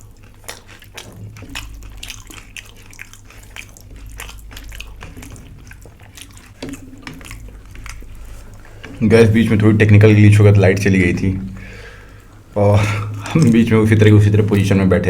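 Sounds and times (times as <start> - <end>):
wet mouth clicks and smacks: 0.0 - 9.1, 11.0 - 14.7
chewing: 0.0 - 15.0.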